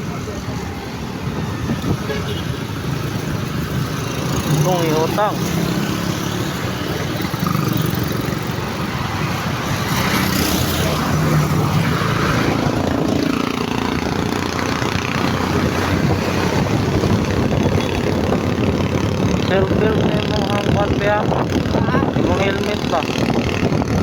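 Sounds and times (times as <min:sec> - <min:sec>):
street traffic noise: 0:00.0 - 0:24.0
motorcycle engine running: 0:01.4 - 0:24.0.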